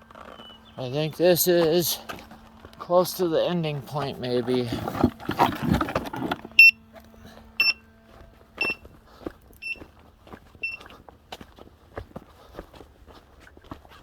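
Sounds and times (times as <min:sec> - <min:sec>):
footsteps: 0:01.1 - 0:07.5, 0:08.1 - 0:14.0.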